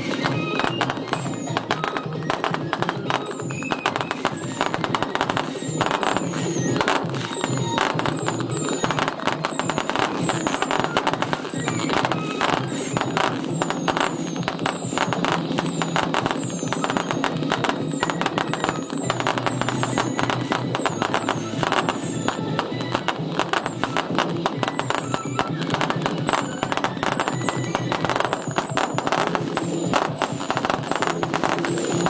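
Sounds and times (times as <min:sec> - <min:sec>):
fireworks crackling and popping: 0:00.0 - 0:32.0
fireworks whistles falling in pitch: 0:00.0 - 0:32.0.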